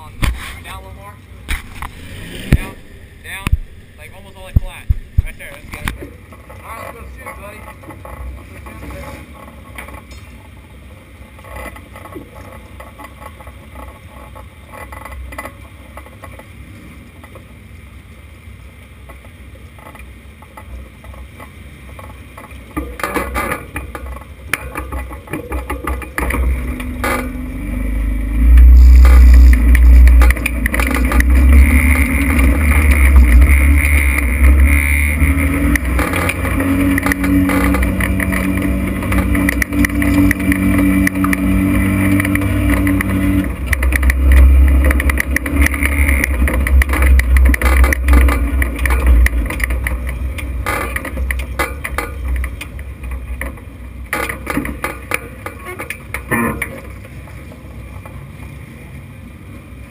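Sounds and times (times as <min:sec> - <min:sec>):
race car engine rumbling: 0:00.0 - 0:59.9.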